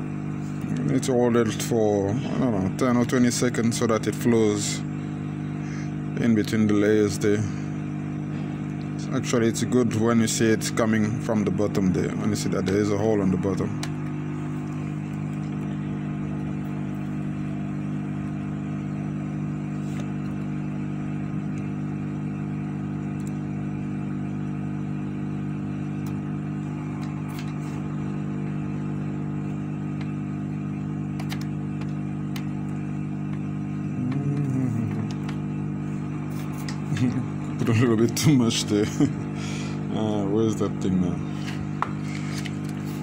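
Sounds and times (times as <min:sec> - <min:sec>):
small fan motor humming: 0:00.0 - 0:43.0.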